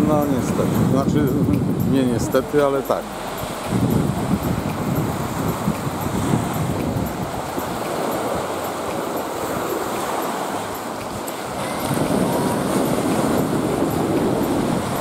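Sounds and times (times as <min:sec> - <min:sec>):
sea waves washing onto shore: 0:00.0 - 0:15.0
wind buffeting microphone: 0:00.0 - 0:15.0.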